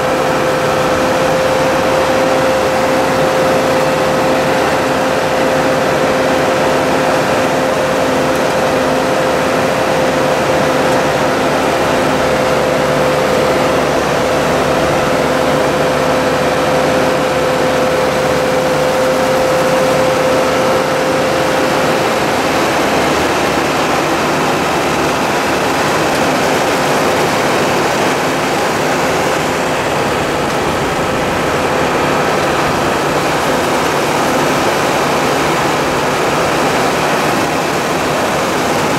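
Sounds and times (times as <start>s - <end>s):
harvester working through bushes: 0.0s - 38.9s
tractor engine running: 0.0s - 38.9s.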